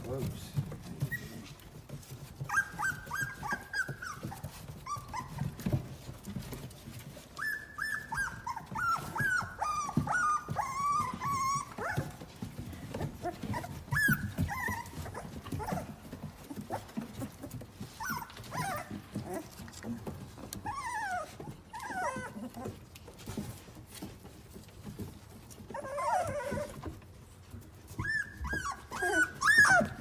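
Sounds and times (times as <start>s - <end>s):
puppies whining and yipping: 0.1s - 30.0s.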